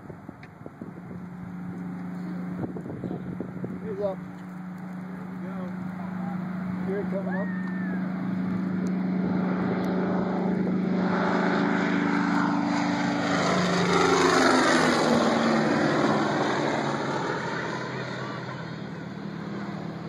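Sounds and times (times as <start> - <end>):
plane engine drone passing: 0.0 - 20.0.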